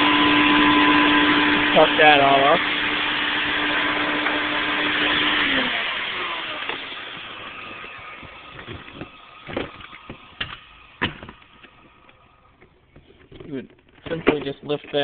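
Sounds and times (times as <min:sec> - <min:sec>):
vacuum cleaner motor running: 0:00.0 - 0:13.4.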